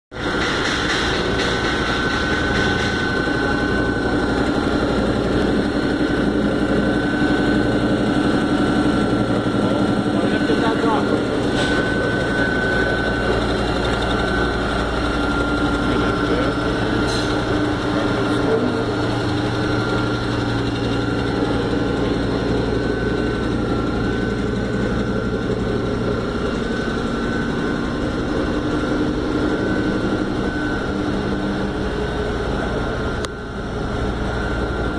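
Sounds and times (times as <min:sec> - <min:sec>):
air compressor running: 0:00.1 - 0:34.9.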